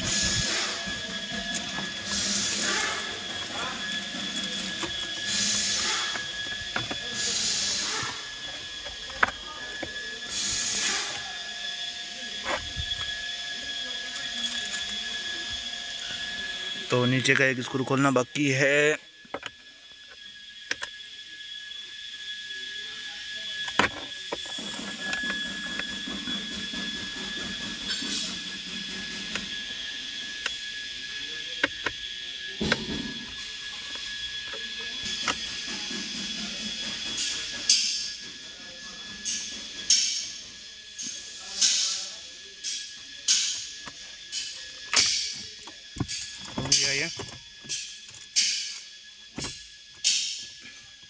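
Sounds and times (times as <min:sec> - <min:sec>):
steady high-pitched whine: 0:00.0 - 0:51.0.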